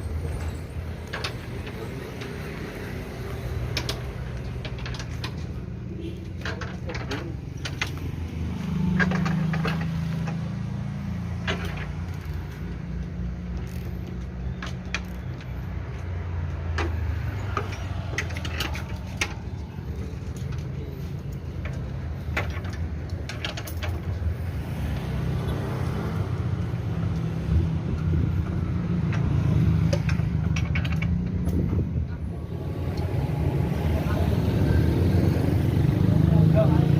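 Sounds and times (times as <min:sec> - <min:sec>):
vehicle engines rumbling: 0:00.0 - 0:36.9.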